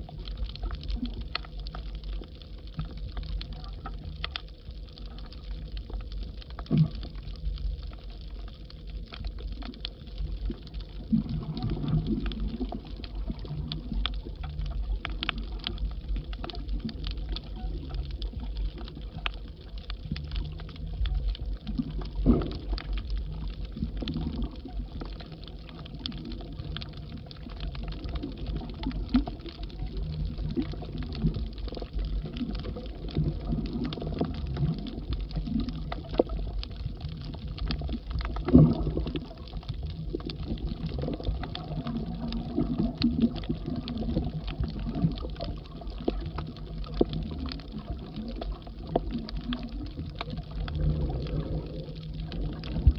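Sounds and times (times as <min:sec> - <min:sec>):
bubbling: 0:00.0 - 0:52.9
crackling clicks: 0:00.0 - 0:52.9
underwater rumble of moving water: 0:00.0 - 0:52.9.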